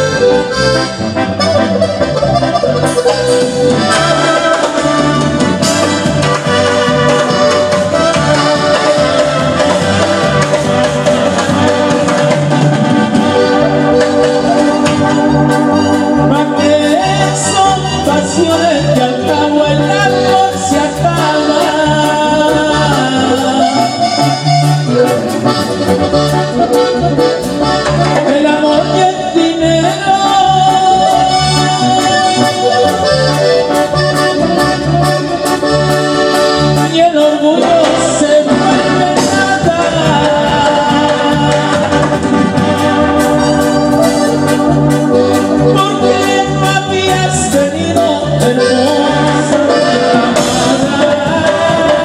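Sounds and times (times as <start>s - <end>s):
band music with keyboard melody: 0.0s - 52.0s
person singing: 1.4s - 12.6s, 13.4s - 24.9s, 28.0s - 52.0s.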